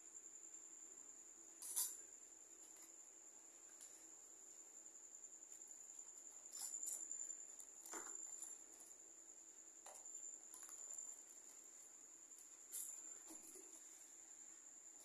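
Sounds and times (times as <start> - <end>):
cricket trilling: 0.0 - 15.0.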